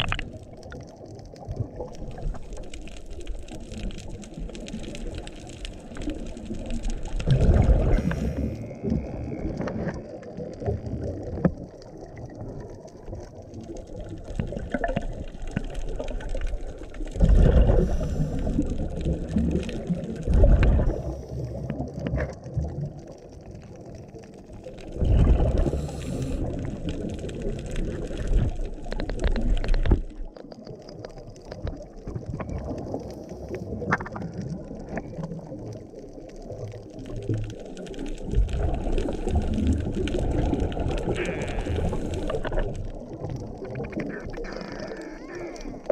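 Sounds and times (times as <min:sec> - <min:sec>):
muffled underwater rumble: 0:00.0 - 0:45.9
underwater exhaled bubbles: 0:00.0 - 0:45.9.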